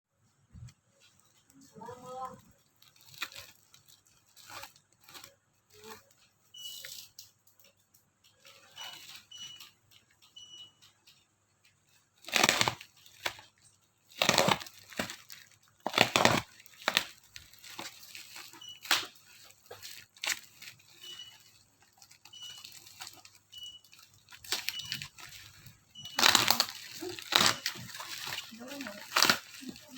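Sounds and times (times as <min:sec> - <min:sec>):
plastic packaging crinkling and tearing: 0:01.0 - 0:07.7, 0:08.3 - 0:10.2, 0:11.9 - 0:29.9.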